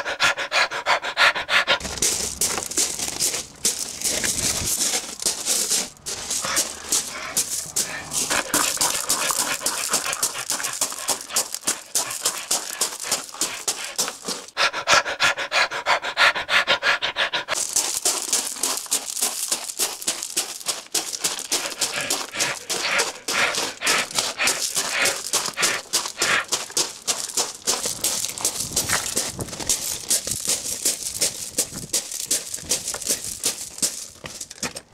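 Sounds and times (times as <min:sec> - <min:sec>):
person panting: 0:00.0 - 0:34.4.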